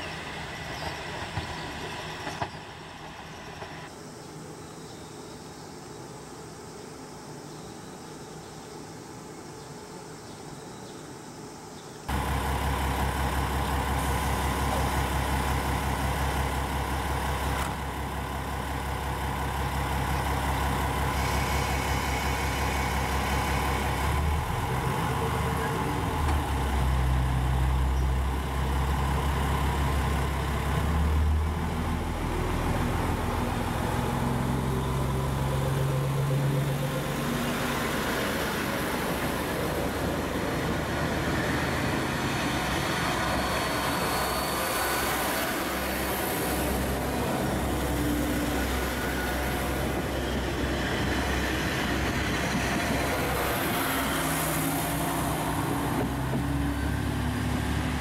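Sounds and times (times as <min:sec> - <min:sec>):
train engines revving: 0:00.0 - 0:03.9, 0:12.1 - 0:58.0
diesel train engines idling: 0:00.0 - 0:04.0, 0:12.1 - 0:58.0.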